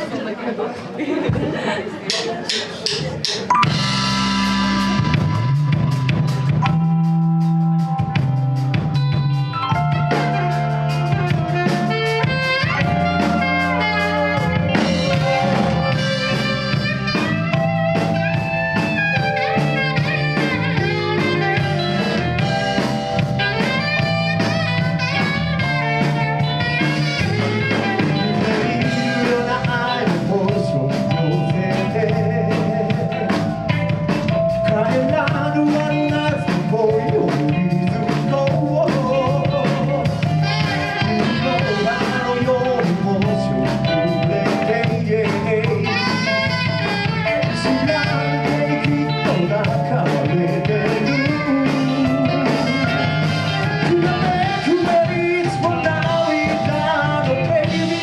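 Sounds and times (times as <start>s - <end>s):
drum kit beat: 1.3s - 58.0s
live blues band: 2.1s - 58.0s
electric guitar lead lines: 3.4s - 58.0s.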